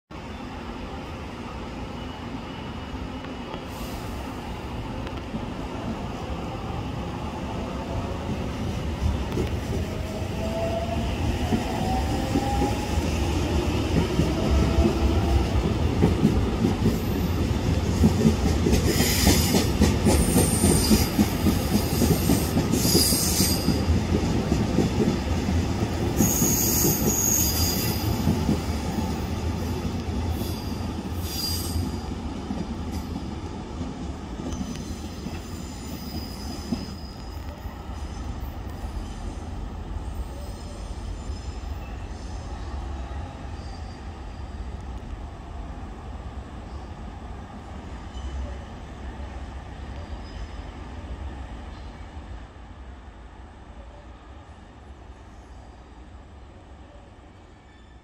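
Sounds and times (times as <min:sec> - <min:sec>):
train wheels rumbling on rails: 0:03.0 - 0:52.6.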